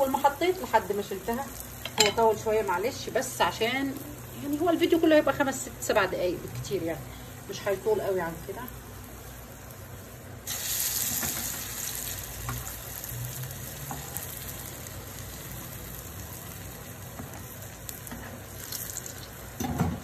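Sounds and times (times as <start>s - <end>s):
food deep-frying in oil: 0.0s - 20.0s.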